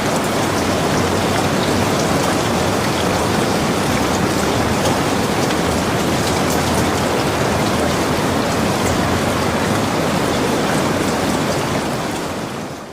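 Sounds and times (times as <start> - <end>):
steady rain hiss: 0.0 - 12.9.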